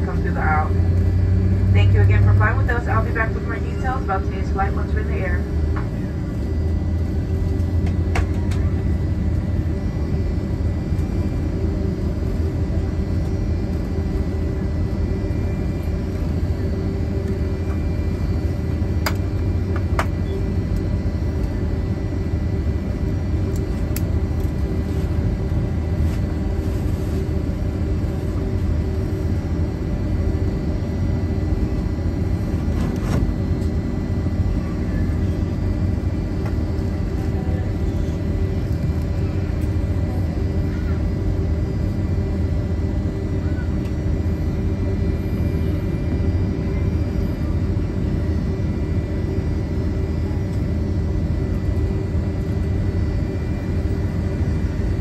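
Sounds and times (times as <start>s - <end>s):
aircraft cabin rumble and hum: 0.0s - 55.0s.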